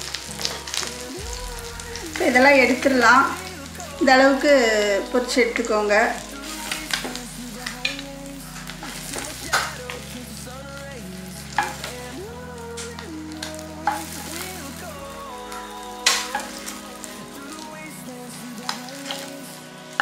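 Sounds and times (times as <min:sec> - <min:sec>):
eggs sizzling in oil: 0:00.0 - 0:20.0.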